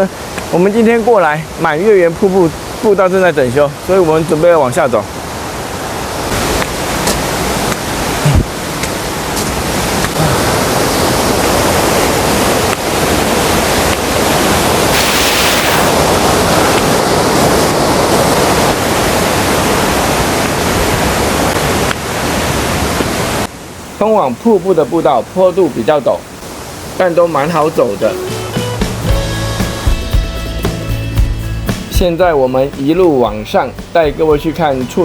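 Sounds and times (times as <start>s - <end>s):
waterfall rushing water: 0.0s - 29.8s.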